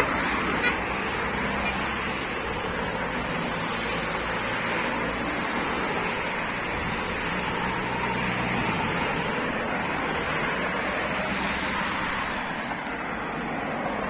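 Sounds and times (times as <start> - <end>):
car engines passing: 0.0 - 14.0.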